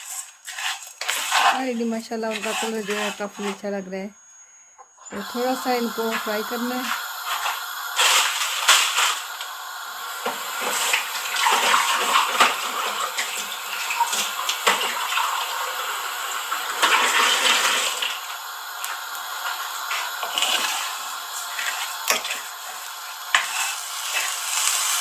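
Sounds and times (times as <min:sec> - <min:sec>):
oil crackles: 0:00.0 - 0:01.8, 0:05.2 - 0:25.0
noodles sizzling in a wok: 0:00.0 - 0:03.9, 0:05.1 - 0:25.0.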